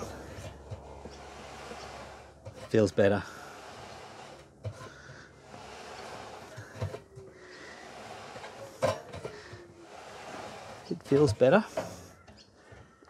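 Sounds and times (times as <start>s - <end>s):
dryer belt rubbing: 0.0s - 12.1s.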